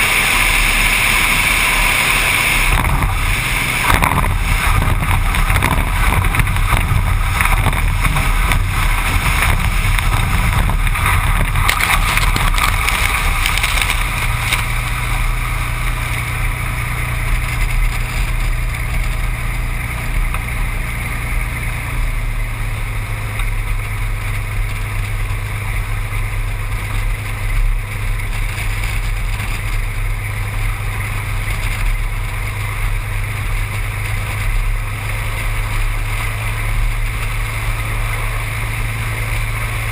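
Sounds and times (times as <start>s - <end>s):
propeller engine droning: 0.0s - 39.9s
wind noise: 0.0s - 39.9s.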